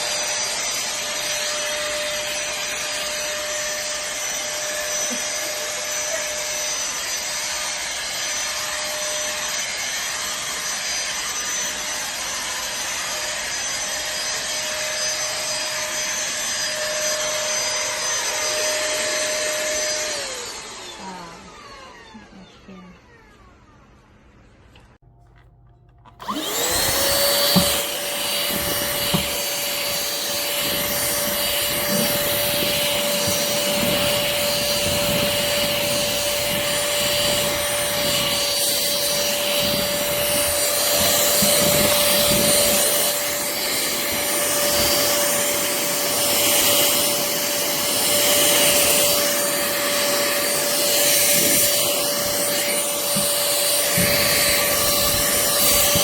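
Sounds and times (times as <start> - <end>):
handheld vacuum motor whine: 0.0 - 56.0.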